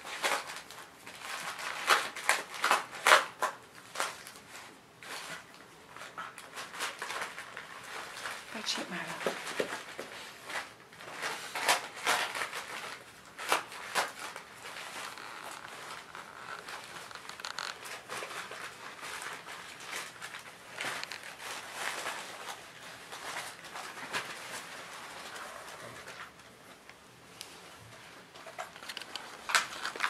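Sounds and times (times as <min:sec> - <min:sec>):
wrapping paper crinkling and tearing: 0:00.0 - 0:30.0.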